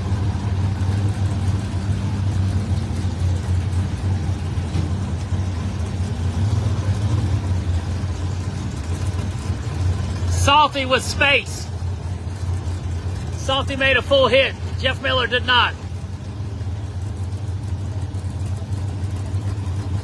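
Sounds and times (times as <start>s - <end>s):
race car engines idling: 0.0s - 20.0s.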